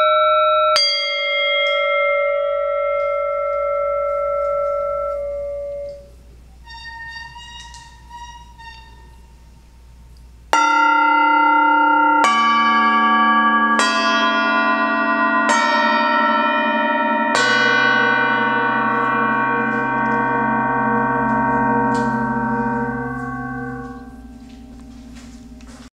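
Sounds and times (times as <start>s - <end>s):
gong damped by hand: 0.0s - 6.3s, 10.5s - 25.9s
gongs struck with mallet: 0.0s - 6.4s, 10.5s - 25.9s.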